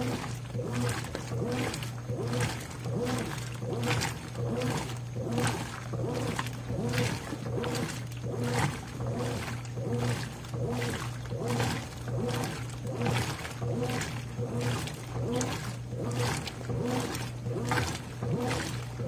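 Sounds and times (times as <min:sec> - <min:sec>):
motor hum: 0:00.0 - 0:19.0
washing machine water swishing: 0:00.0 - 0:19.0.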